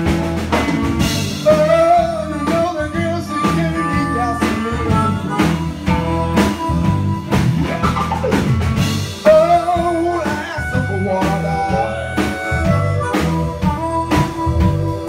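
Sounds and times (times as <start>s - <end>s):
blues guitar: 0.0s - 15.0s
drum kit steady beat: 0.0s - 15.0s.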